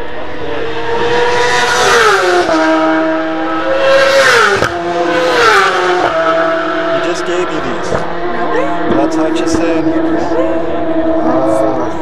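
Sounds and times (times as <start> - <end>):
racing motorcycles passing: 0.0 - 12.0.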